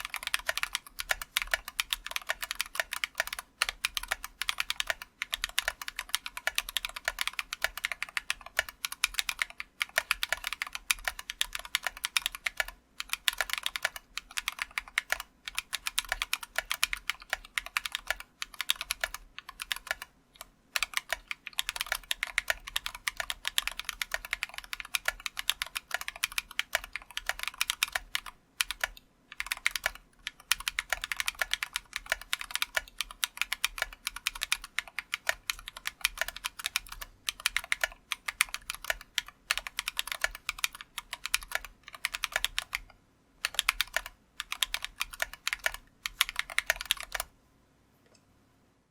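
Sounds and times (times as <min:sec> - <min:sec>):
fast typing on mechanical keyboard: 0:00.0 - 0:47.3.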